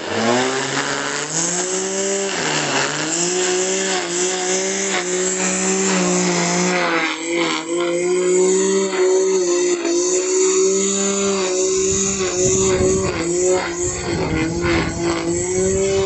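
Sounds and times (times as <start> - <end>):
electric grass trimmer whining: 0.0 - 16.0
nylon line cutting grass: 0.0 - 16.0.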